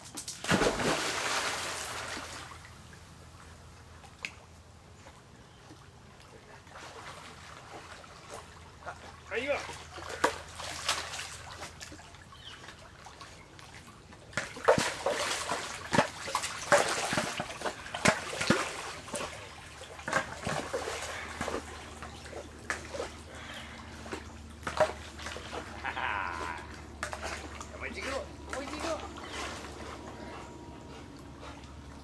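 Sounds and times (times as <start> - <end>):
dog splashing in pool water: 0.2 - 2.8, 6.6 - 30.0.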